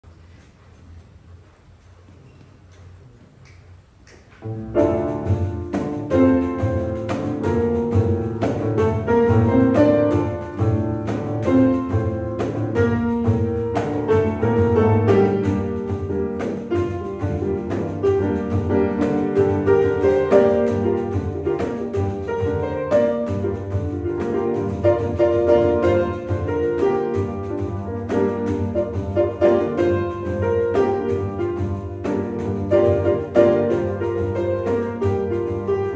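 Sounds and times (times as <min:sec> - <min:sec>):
grand piano playing: 0:04.4 - 0:35.9.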